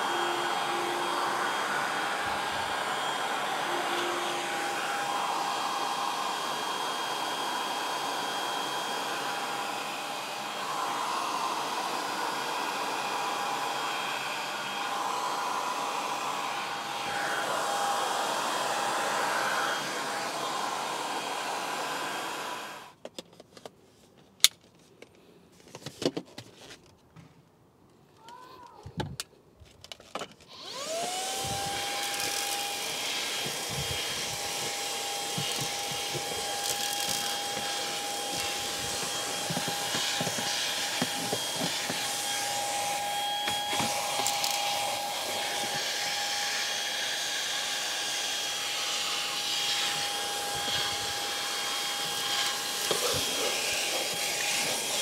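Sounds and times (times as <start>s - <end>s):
vacuum motor whine: 0.0s - 22.9s, 30.5s - 55.0s.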